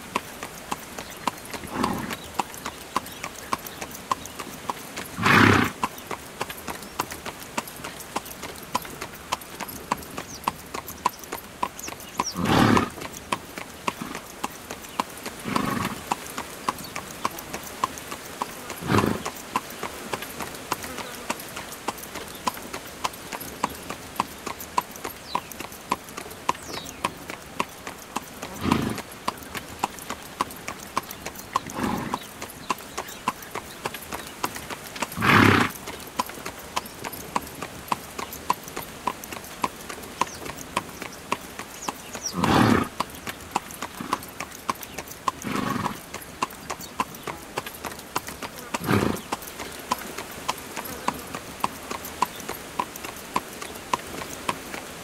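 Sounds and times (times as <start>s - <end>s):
horse hooves clip-clopping on asphalt: 0.0s - 55.0s.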